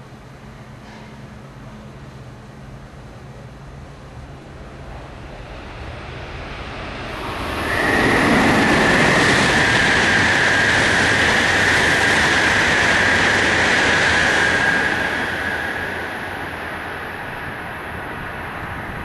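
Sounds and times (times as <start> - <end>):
high whine of train: 0.0 - 19.0
high-speed train passing: 0.0 - 19.0.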